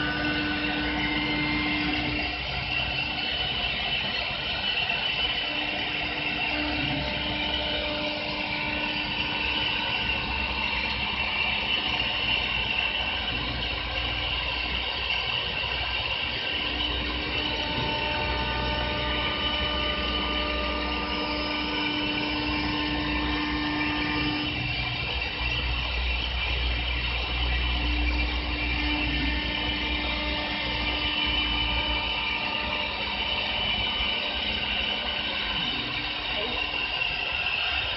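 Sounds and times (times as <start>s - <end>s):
wood lathe machine whine: 0.0s - 37.9s.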